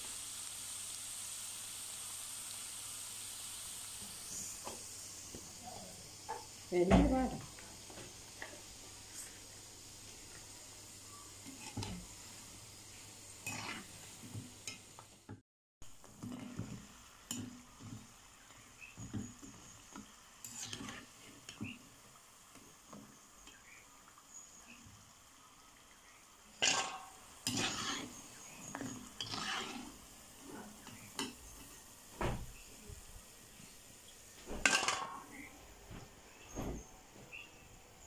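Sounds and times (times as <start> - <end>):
oil sizzling in wok: 0.0 - 38.0.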